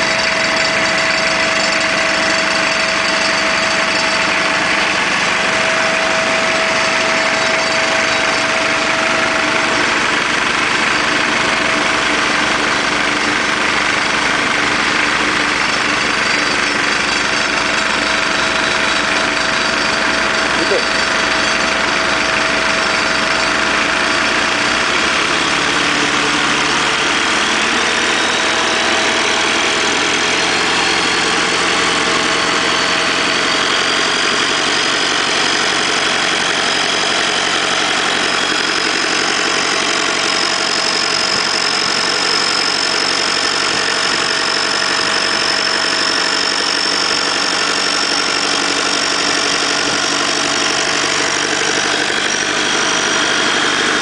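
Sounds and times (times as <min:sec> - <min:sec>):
high whine rising in pitch: 0:00.0 - 0:43.5
diesel engine idling: 0:00.0 - 0:54.0.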